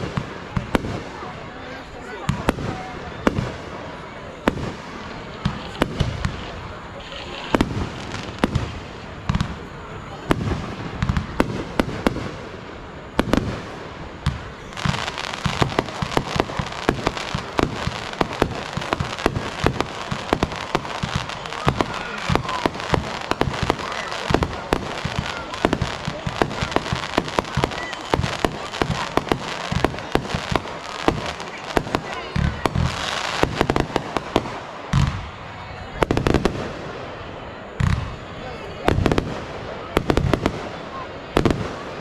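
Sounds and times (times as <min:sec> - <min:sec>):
fireworks bangs and booms: 0:00.0 - 0:42.0
fireworks crackling: 0:00.0 - 0:42.0.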